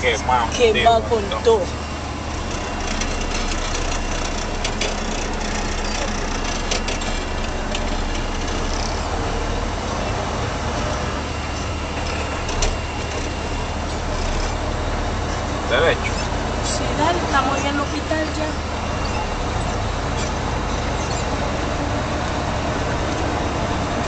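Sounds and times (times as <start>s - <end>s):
engine and road noise in cabin: 0.0s - 24.0s.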